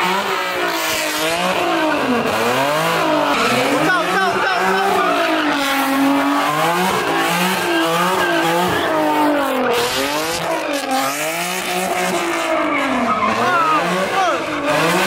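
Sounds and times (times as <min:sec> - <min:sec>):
car engine revving: 0:00.0 - 0:15.0
tires squealing: 0:00.0 - 0:15.0.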